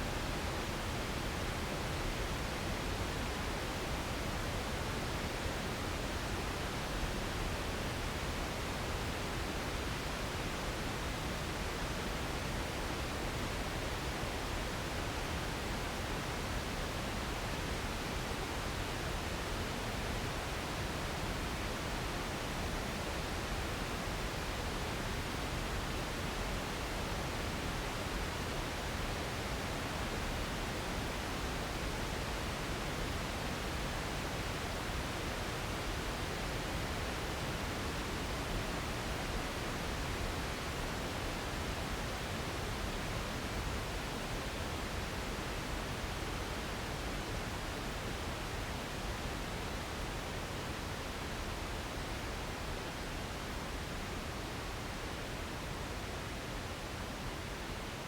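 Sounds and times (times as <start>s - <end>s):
filtered pink noise hiss: 0.0s - 58.0s.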